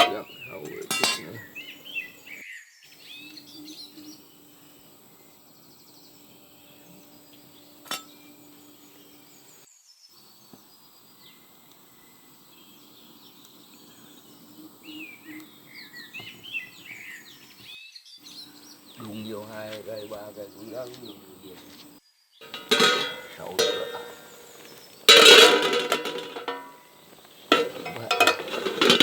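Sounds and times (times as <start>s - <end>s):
faint outdoor background: 0.0s - 29.0s
small birds chirping: 0.0s - 29.0s.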